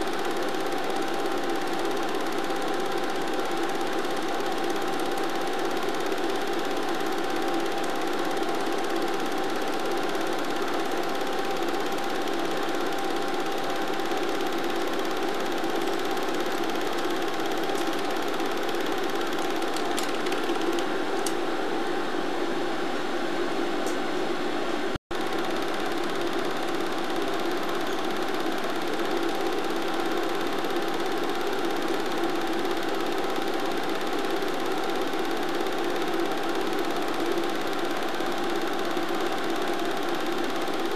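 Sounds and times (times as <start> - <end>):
film projector whirring and clattering: 0.0 - 22.0, 25.1 - 40.9.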